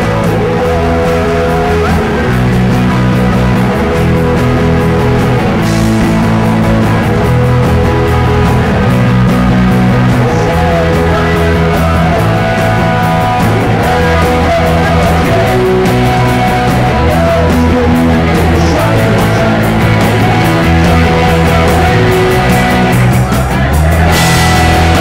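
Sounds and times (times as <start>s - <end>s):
live rock band: 0.0s - 25.0s.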